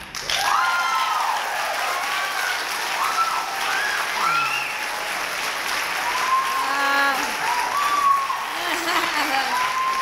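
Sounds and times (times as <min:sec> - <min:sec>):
audience applauding: 0:00.0 - 0:10.0
audience cheering: 0:00.2 - 0:10.0.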